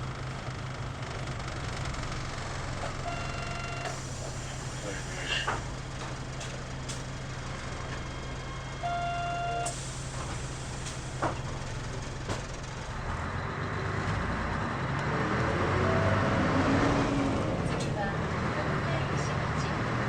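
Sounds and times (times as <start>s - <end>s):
bus diesel engine: 0.0s - 20.0s
road noise: 0.0s - 20.0s.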